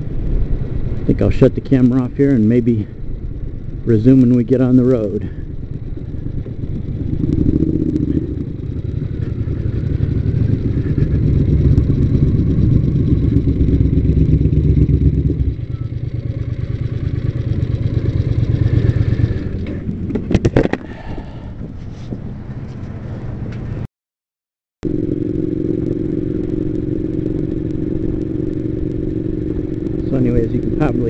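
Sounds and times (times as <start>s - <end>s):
motorcycle engines rumbling: 0.0s - 23.8s, 24.8s - 31.0s.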